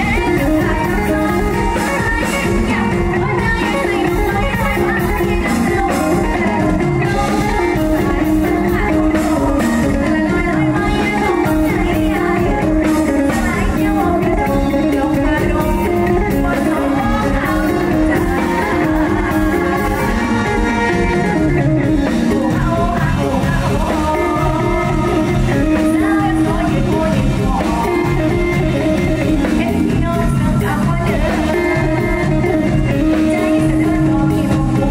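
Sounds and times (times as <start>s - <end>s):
amplified band music: 0.0s - 34.9s
electric guitar: 0.0s - 34.9s
girl singing into microphone: 0.0s - 34.9s.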